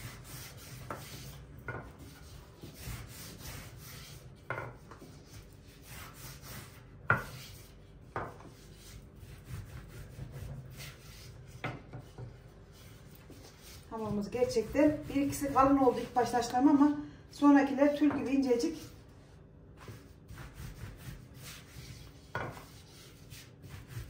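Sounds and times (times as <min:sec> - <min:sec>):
rolling pin rubbing dough: 0:00.0 - 0:16.8, 0:17.9 - 0:24.0.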